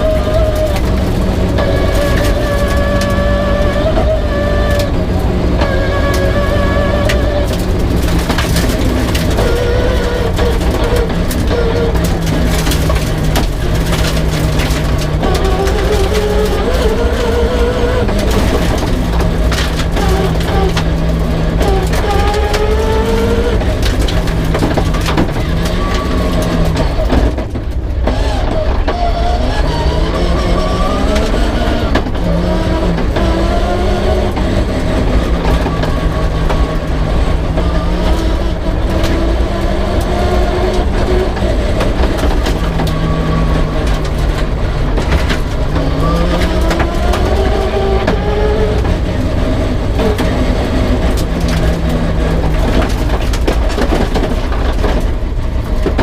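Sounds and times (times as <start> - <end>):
rally car engine revving hard: 0.0 - 56.0.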